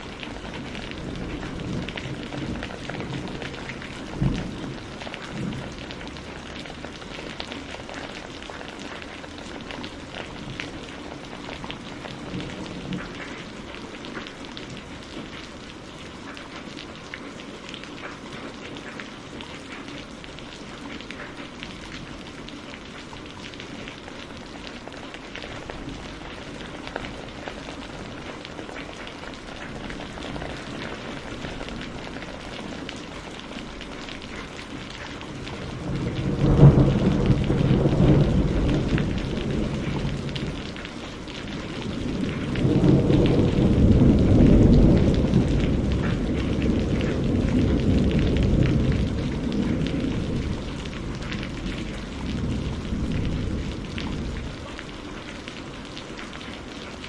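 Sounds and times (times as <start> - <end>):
raindrops ticking: 0.0 - 57.0
steady rain hissing: 0.0 - 57.0.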